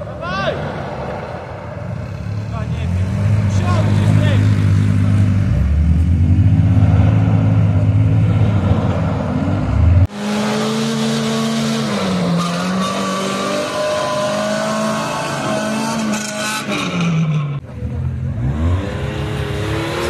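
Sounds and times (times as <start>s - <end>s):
engine whine: 0.0s - 16.6s.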